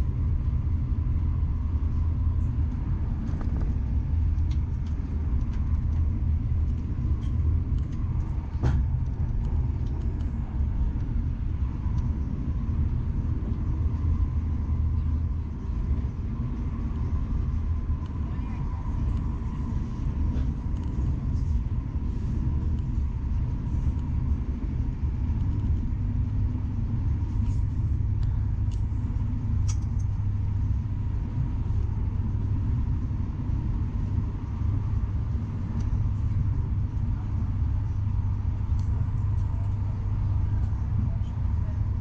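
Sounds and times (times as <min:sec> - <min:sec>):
faint steady whine: 0:00.0 - 0:42.0
train rumble: 0:00.0 - 0:42.0.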